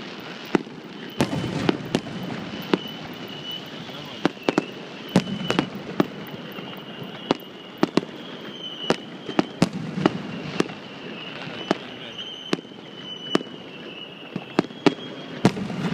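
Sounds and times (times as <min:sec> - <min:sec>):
faint high whine: 0:00.0 - 0:15.4
fireworks bursting with bangs: 0:00.0 - 0:15.9.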